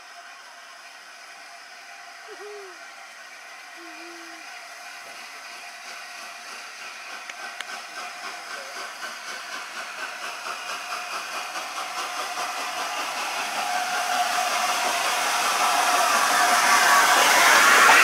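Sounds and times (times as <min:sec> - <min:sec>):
steam locomotive hiss and beats: 0:00.0 - 0:18.0.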